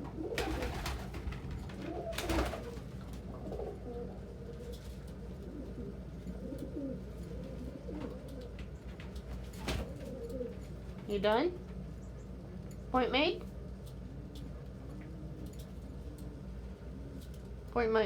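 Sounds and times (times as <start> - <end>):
pigeons cooing: 0.0 - 11.0, 13.7 - 17.6.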